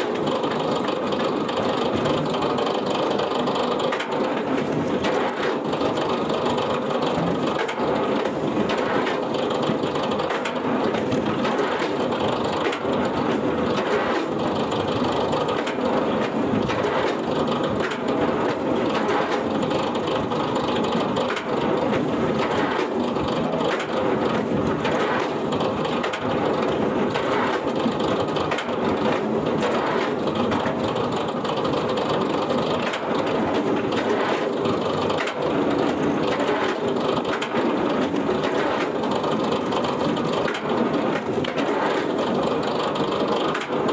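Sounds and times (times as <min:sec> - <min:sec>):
machine crushing wood: 0:00.0 - 0:43.9.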